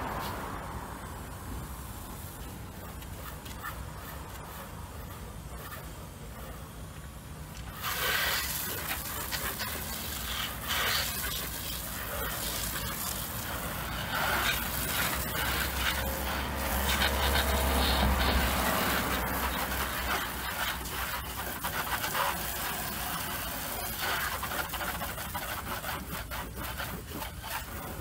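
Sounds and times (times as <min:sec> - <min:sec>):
pressure washer spraying water: 0:00.0 - 0:28.0.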